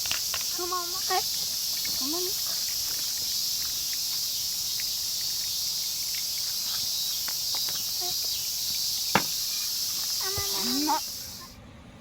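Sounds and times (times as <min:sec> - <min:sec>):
insects chirring: 0:00.0 - 0:11.6.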